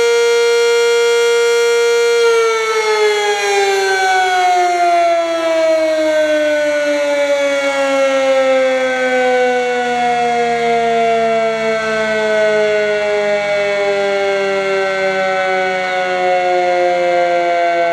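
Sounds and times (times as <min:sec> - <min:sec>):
siren tone sliding down: 0:02.0 - 0:17.9.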